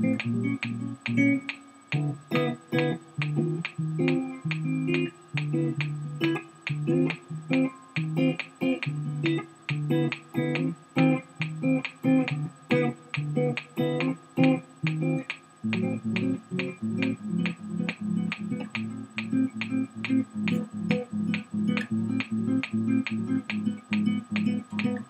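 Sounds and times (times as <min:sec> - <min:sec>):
electric guitar riff: 0:00.0 - 0:25.0.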